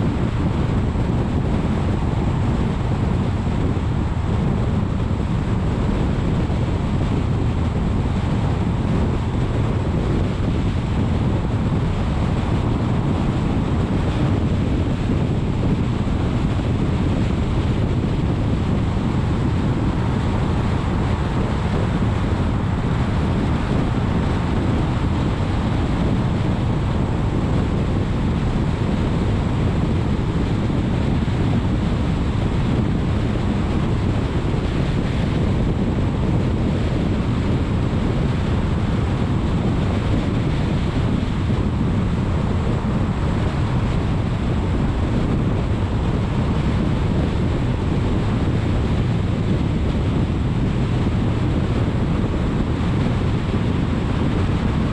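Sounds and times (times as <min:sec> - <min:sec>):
car tyre and wind noise: 0:00.0 - 0:54.9
wind buffeting microphone: 0:00.0 - 0:54.9.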